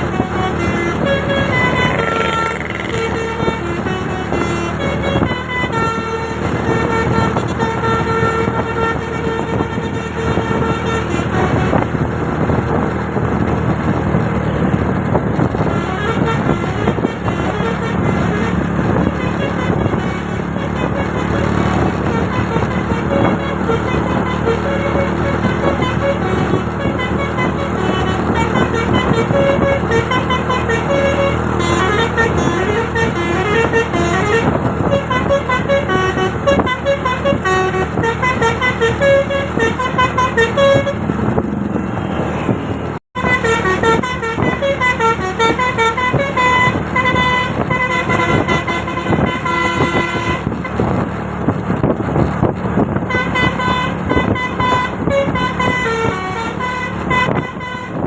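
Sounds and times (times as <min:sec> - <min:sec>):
bus engine running: 0:00.0 - 0:58.0
musical bus horn tunes: 0:00.0 - 0:58.0.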